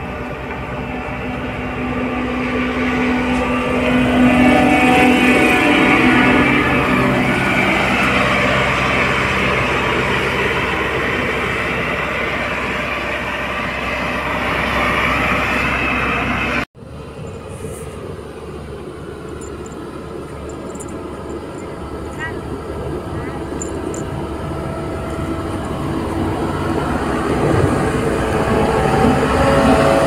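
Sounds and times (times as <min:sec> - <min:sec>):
road roller diesel engine: 0:00.0 - 0:30.0.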